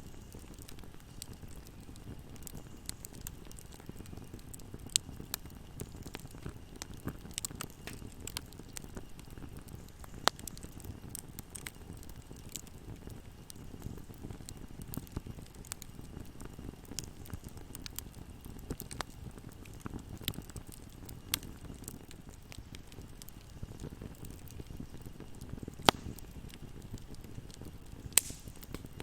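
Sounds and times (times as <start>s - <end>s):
fire crackling: 0.0s - 29.0s
flames rumbling: 0.0s - 29.0s
wood fire popping loudly: 0.0s - 29.0s.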